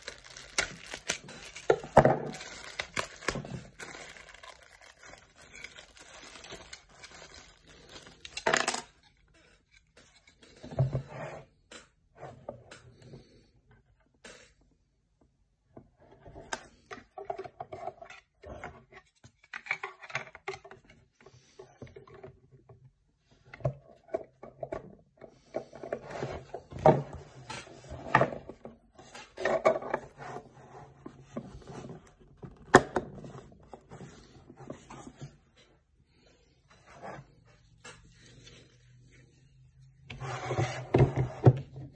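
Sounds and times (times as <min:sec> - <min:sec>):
plastic parts rustling and scraping: 0:00.0 - 0:11.6, 0:15.9 - 0:41.9.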